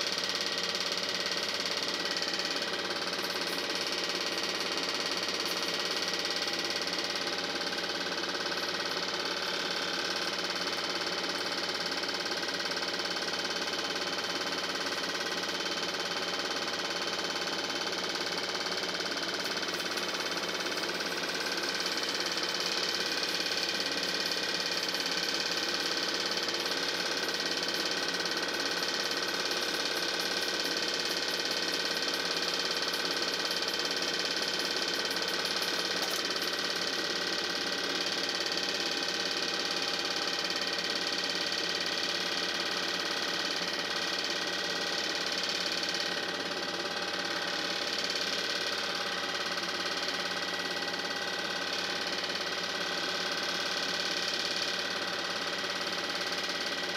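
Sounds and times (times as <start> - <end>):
film projector running: 0.0 - 56.9.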